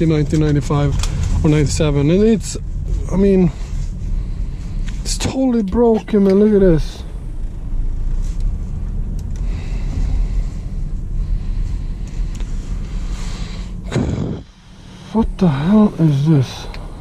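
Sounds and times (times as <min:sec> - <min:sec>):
car cabin engine and tyre rumble: 0:00.0 - 0:17.0.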